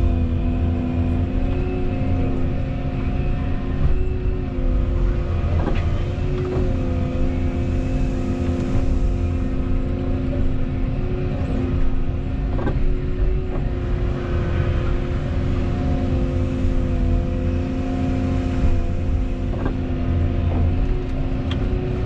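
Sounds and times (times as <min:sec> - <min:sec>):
excavator diesel rumble: 0:00.0 - 0:22.0.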